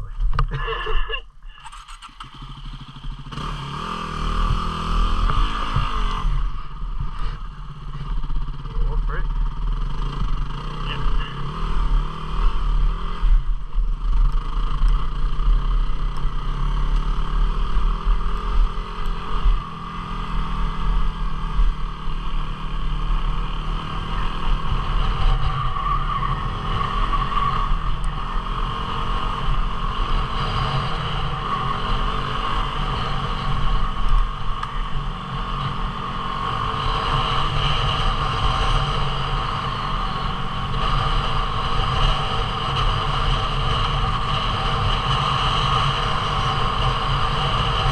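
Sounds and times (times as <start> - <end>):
motorcycle engine running: 1.4 - 47.9.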